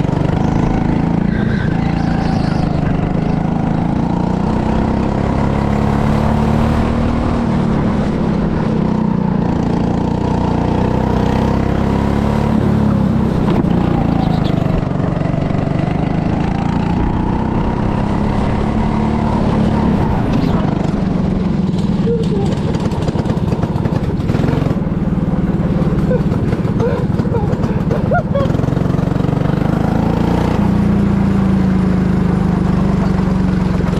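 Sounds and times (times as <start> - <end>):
go-kart engine running: 0.0 - 33.9.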